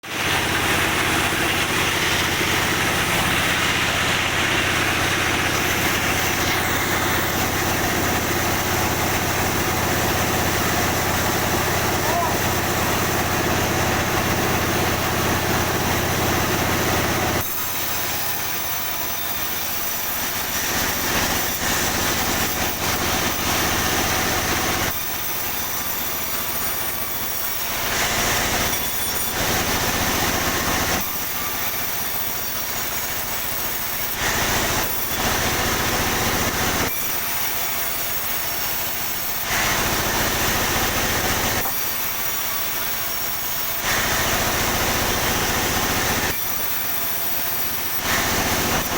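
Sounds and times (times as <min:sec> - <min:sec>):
sawmill saw cutting boards: 0:00.0 - 0:48.9.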